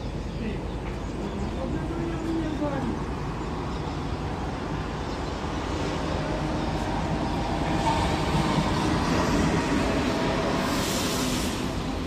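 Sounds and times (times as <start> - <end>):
distant city traffic rumble: 0.0 - 12.0.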